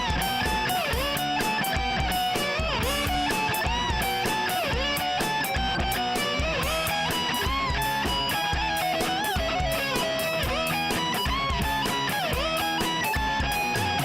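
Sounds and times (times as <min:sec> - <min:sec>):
rock music with pitch-bending melody: 0:00.0 - 0:14.0.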